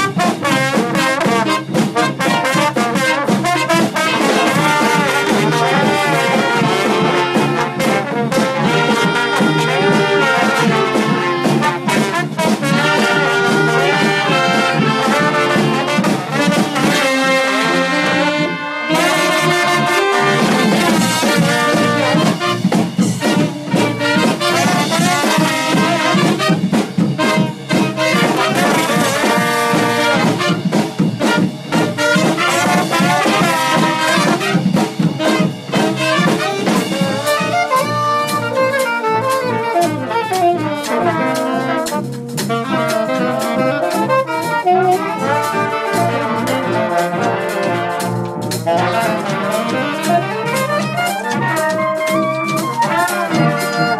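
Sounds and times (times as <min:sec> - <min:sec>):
brass band playing: 0:00.0 - 0:53.9
drum kit beat: 0:00.0 - 0:53.9.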